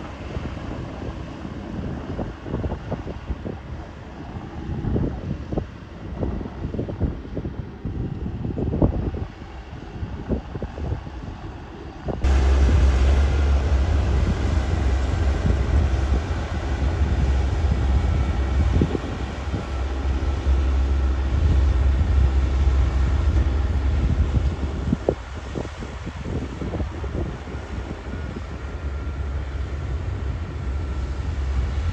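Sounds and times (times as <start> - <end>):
diesel engines running under load: 0.0 - 31.9.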